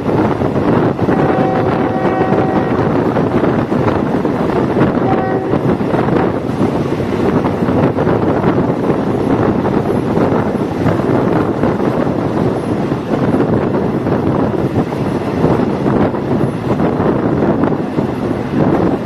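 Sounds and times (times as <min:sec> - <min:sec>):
railcar running noise: 0:00.0 - 0:19.0
wind buffeting microphone: 0:00.0 - 0:19.0.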